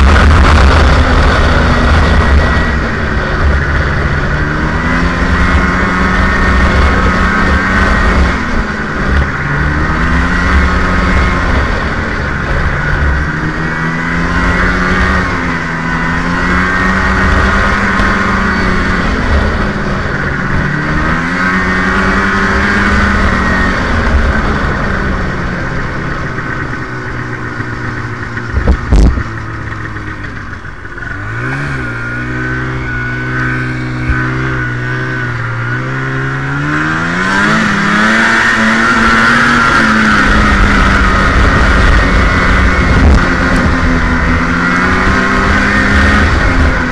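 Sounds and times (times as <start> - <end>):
snowmobile engine running: 0.0 - 46.9.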